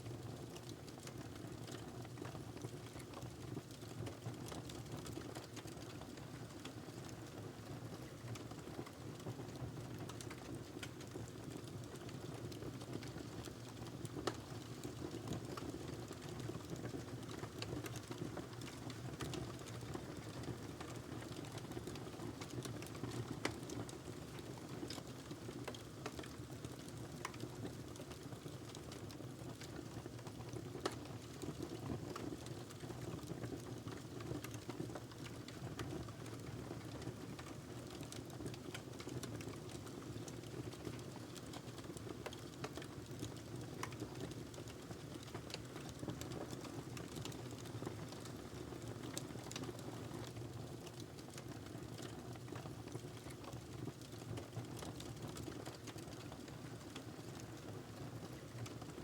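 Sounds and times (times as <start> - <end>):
wood fire crackling: 9.5 - 59.0.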